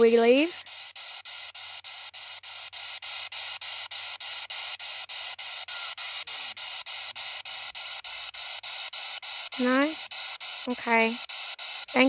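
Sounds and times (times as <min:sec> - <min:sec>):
radio static sweeping: 0:00.0 - 0:12.0.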